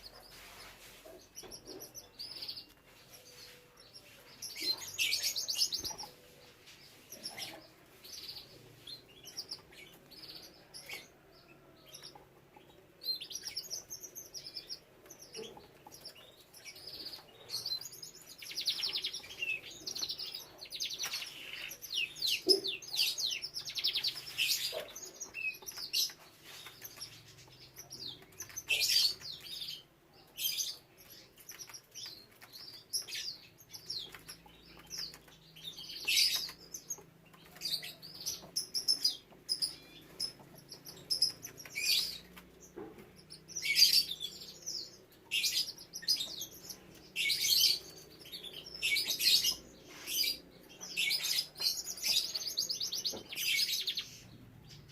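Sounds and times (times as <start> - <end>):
canaries singing high trills: 0.0 - 54.9.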